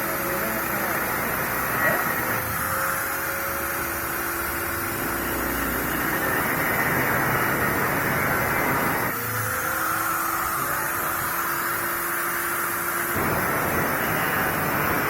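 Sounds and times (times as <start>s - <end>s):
angle grinder whining: 0.0s - 15.0s.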